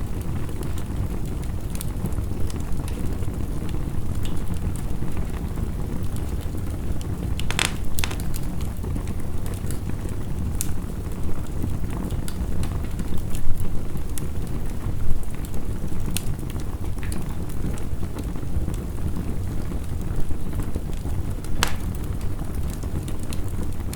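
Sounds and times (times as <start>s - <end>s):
heavy rain: 0.0s - 23.9s
wood fire crackling and popping: 0.0s - 23.9s.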